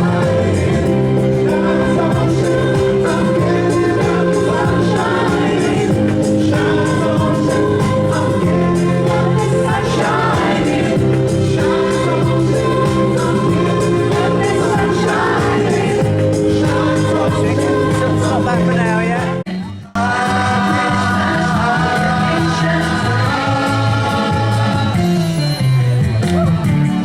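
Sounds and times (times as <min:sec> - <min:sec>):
choir singing with accompaniment: 0:00.0 - 0:25.8.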